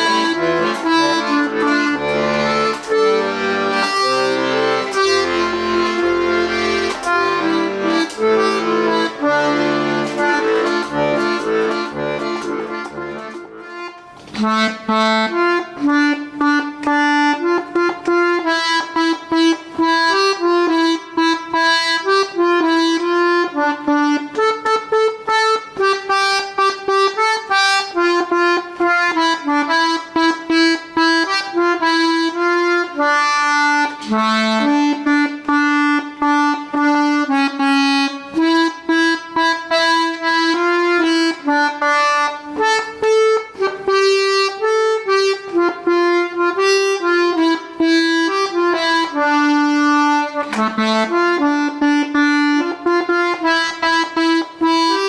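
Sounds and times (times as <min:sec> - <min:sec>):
button accordion melody: 0:00.0 - 0:55.0.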